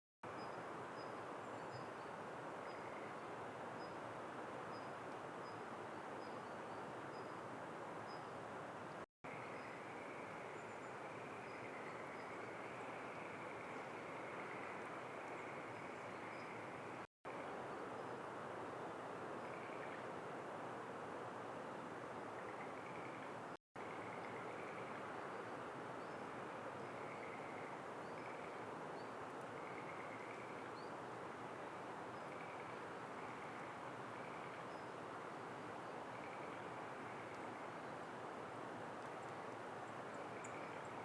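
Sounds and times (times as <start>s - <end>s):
outdoor background noise: 0.2s - 41.0s.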